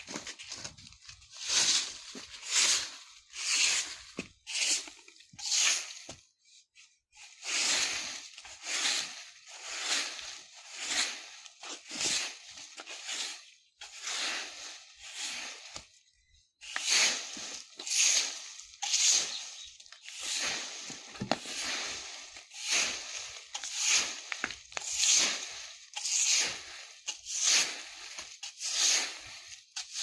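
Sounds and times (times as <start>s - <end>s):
broom sweeping dry leaves: 0.0s - 6.3s, 7.1s - 30.0s.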